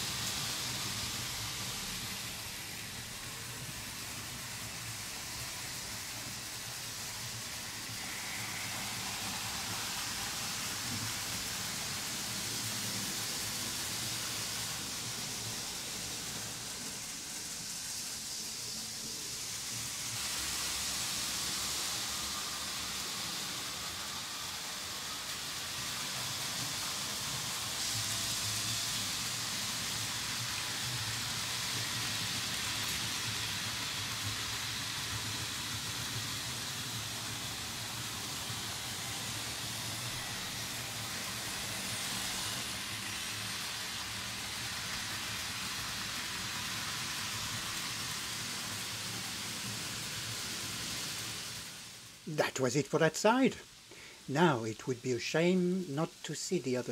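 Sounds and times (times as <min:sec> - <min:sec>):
model train wheels rattling on rails: 0:00.0 - 0:52.2.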